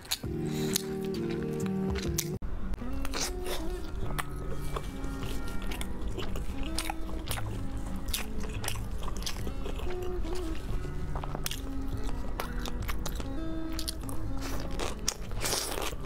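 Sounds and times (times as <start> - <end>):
crunchy chewing: 0.0 - 2.4, 3.0 - 16.0
background music: 0.0 - 16.0.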